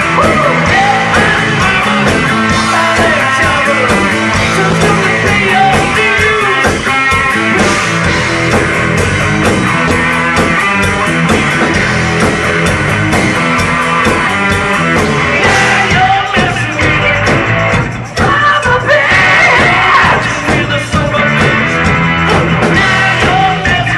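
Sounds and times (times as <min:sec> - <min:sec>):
rock band playing: 0:00.0 - 0:23.9.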